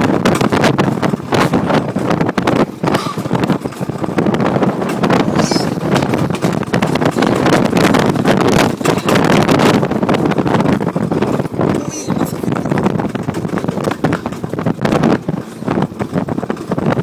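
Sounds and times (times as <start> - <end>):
coaster wheels rumbling on rail: 0.0 - 17.0
wind buffeting microphone: 0.0 - 17.0.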